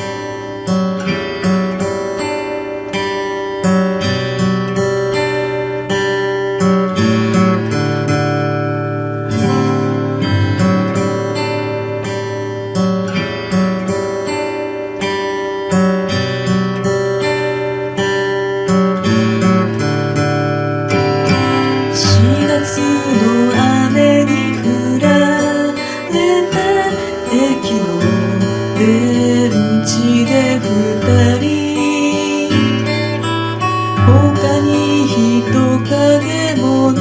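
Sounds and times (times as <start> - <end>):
acoustic guitar plucking: 0.0 - 37.0.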